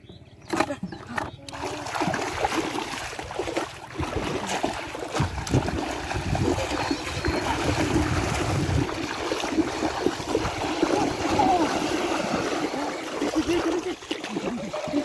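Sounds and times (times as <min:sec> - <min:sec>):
wading and running through water: 0:01.5 - 0:15.0.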